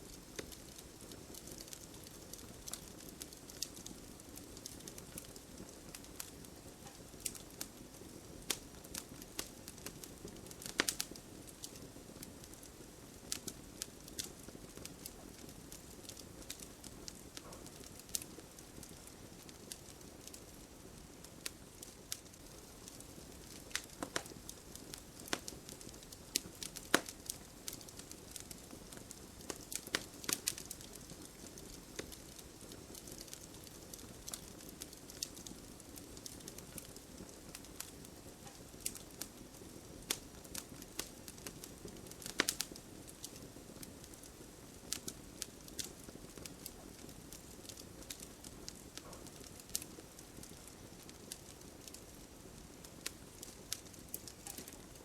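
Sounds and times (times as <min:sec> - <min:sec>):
campfire crackling and popping: 0:00.0 - 0:55.0
low hiss of flames: 0:00.0 - 0:55.0.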